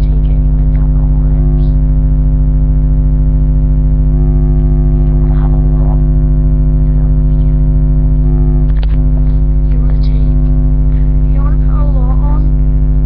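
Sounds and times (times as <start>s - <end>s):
electrical mains hum and buzz: 0.0s - 13.0s.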